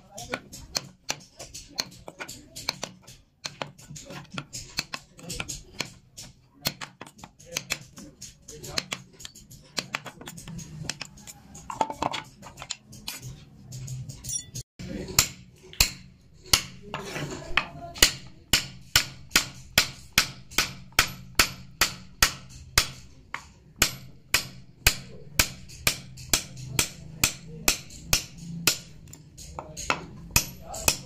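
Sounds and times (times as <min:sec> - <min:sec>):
mallet striking chisel on wood: 0:00.0 - 0:13.9, 0:15.1 - 0:31.0.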